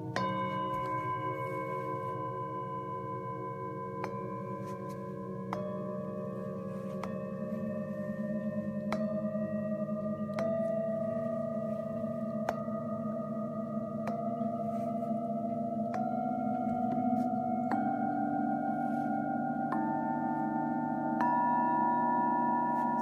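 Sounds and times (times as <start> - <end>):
low wavering hum: 0.0 - 23.0
singing bowls ringing: 0.0 - 23.0.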